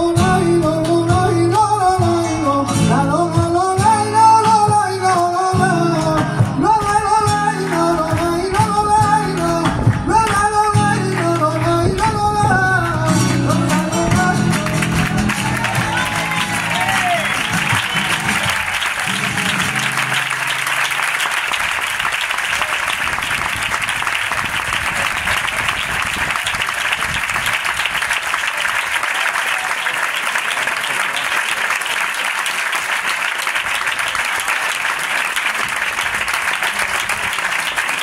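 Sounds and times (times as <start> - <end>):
audience applauding: 6.7 - 38.0.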